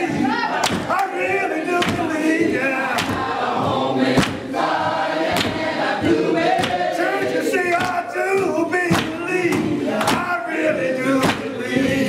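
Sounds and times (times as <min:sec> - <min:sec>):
congregation singing gospel song: 0:00.0 - 0:12.0
sharp beats: 0:00.0 - 0:12.0.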